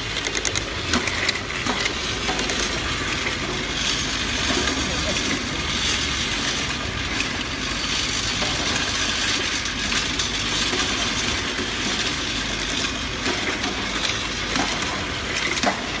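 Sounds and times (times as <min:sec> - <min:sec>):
machine clattering: 0:00.0 - 0:16.0.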